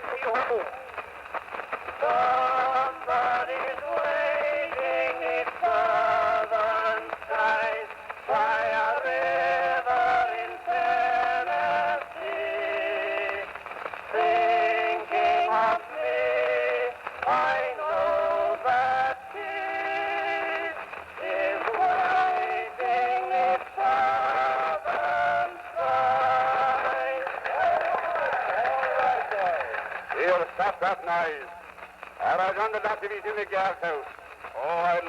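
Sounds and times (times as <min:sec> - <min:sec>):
men singing on old recording: 0:01.8 - 0:31.5, 0:32.2 - 0:35.0.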